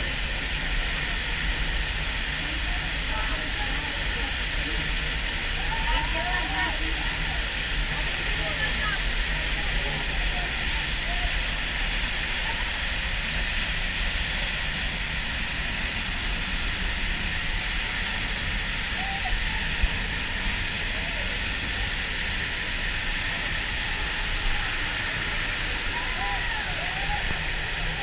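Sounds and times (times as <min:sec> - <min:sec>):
waterfall hissing and rumbling: 0:00.0 - 0:28.0.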